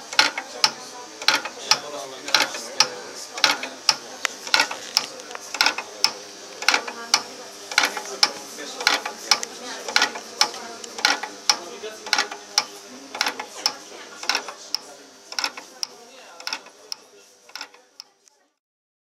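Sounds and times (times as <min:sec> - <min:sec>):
relays clicking: 0:00.0 - 0:18.1.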